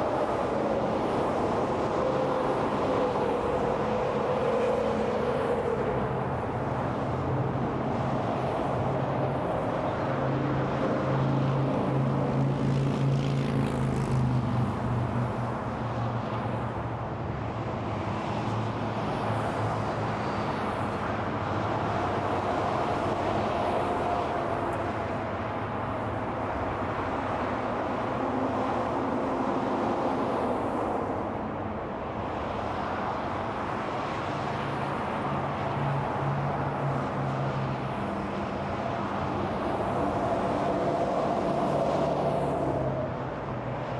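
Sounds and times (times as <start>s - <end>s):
freeway traffic rushing: 0.0s - 43.9s.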